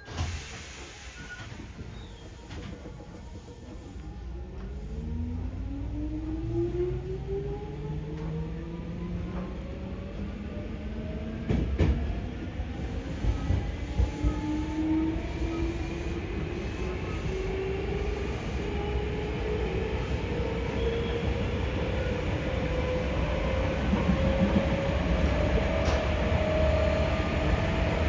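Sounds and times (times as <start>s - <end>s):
rumble of wheels on rails: 0.0s - 28.0s.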